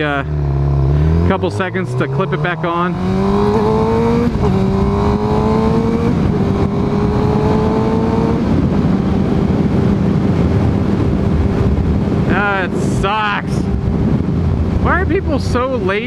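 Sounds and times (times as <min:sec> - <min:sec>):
motorcycle engine accelerating: 0:00.0 - 0:16.0
wind noise: 0:00.0 - 0:16.0.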